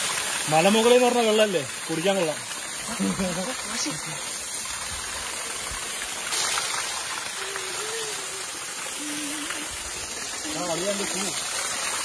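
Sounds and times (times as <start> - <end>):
waterfall pouring and splashing: 0.0 - 12.0.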